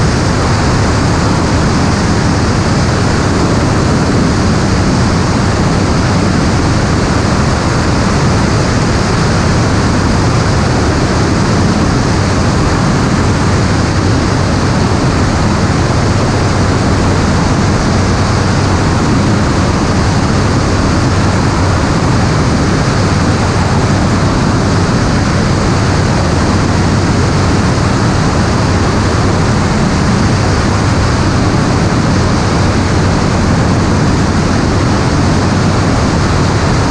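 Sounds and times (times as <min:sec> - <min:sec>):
aircraft engine drone: 0:00.0 - 0:36.9
rush of air: 0:00.0 - 0:36.9.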